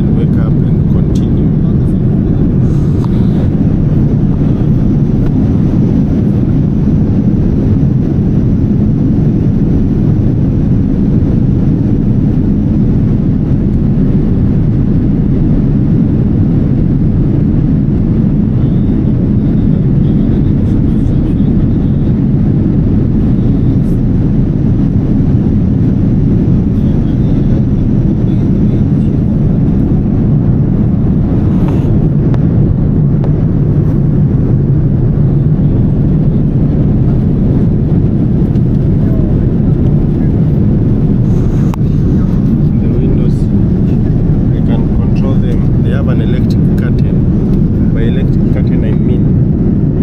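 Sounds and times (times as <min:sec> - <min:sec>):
airplane cabin engine hum: 0:00.0 - 0:50.0.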